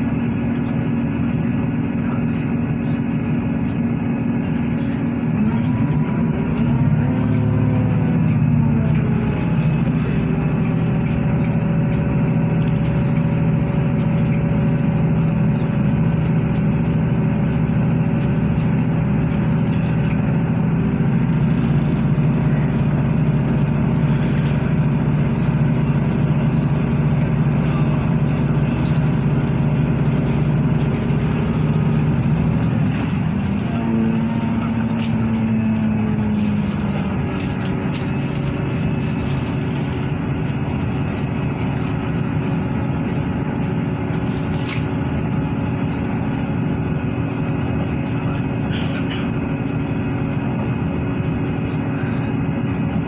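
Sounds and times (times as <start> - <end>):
train engine drone: 0.0 - 53.0
wheels rumbling on rails: 0.0 - 53.0.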